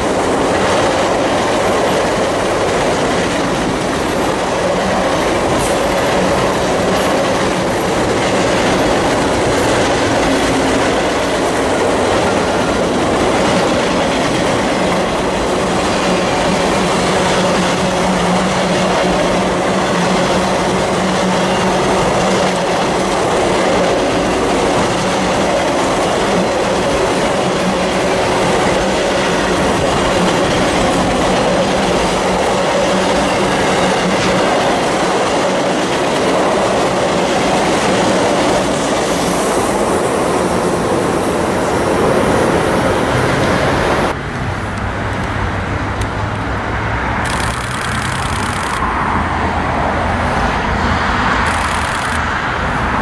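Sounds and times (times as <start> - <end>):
steel wheels rumbling on rails: 0.0 - 53.0.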